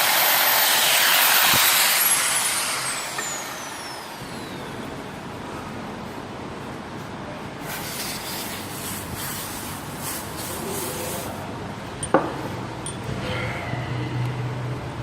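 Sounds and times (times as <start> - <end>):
workshop background noise: 0.0 - 13.8.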